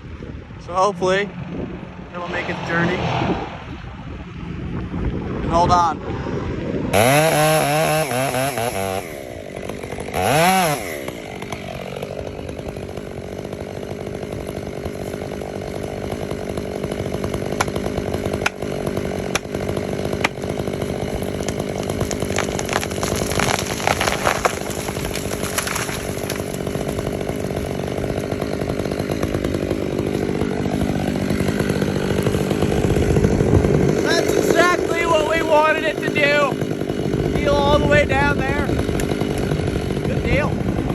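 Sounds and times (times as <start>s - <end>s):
chainsaw cutting into tree: 6.9s - 40.9s.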